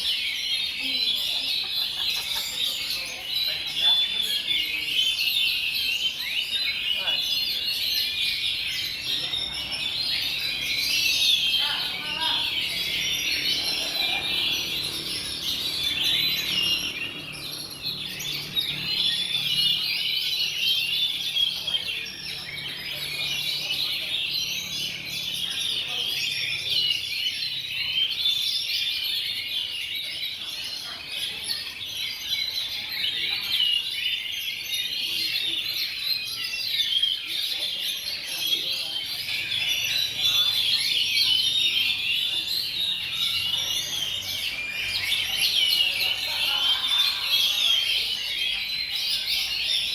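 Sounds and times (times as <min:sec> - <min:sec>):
chorus of songbirds singing: 0:00.0 - 0:49.9.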